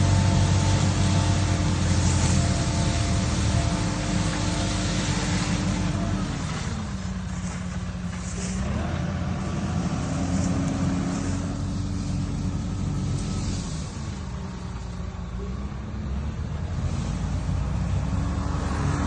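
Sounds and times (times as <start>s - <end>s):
branch sweeper working: 0.0s - 19.0s
tractor engine running: 0.0s - 19.0s.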